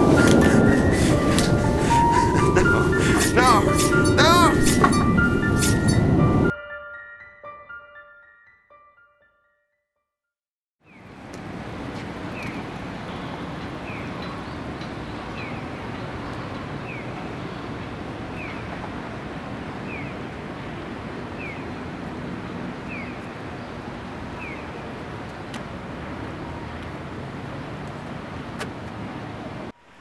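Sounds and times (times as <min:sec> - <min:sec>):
distant traffic: 0:00.0 - 0:06.5, 0:10.8 - 0:30.0
wind: 0:00.0 - 0:06.5, 0:10.8 - 0:30.0.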